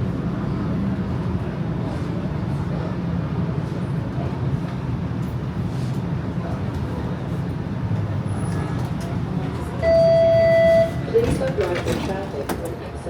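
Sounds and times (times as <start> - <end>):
streetcar rumble: 0.0 - 13.0.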